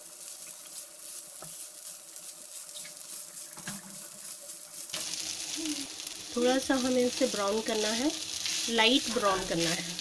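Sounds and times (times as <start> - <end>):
coconut sizzling in a pan: 0.0 - 10.0.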